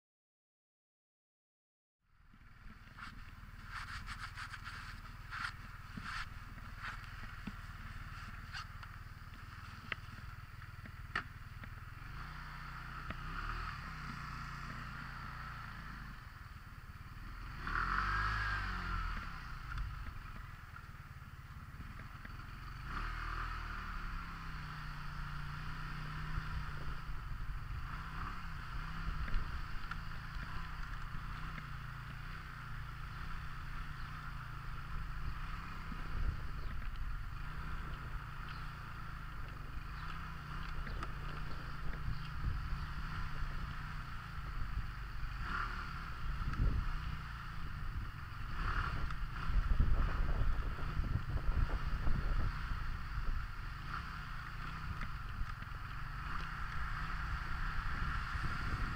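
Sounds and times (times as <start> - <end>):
road and wind noise: 2.0 - 58.9
scooter engine droning: 2.2 - 58.9.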